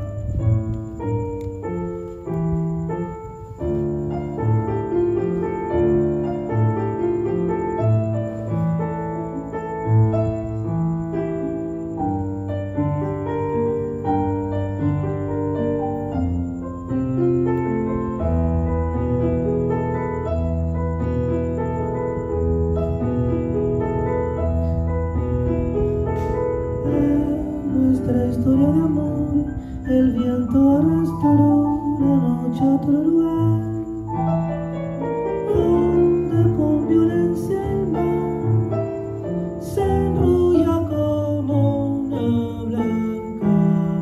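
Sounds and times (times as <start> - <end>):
solo piano: 0.0 - 44.0.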